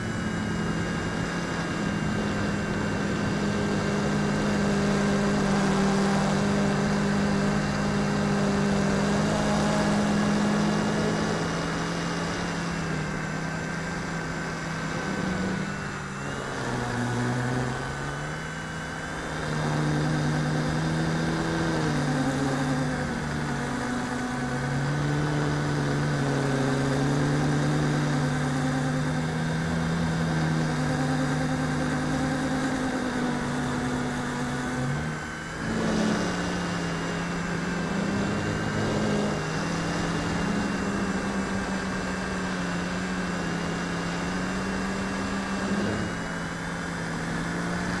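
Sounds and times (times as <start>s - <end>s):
quadcopter propellers whirring: 0.0s - 48.0s.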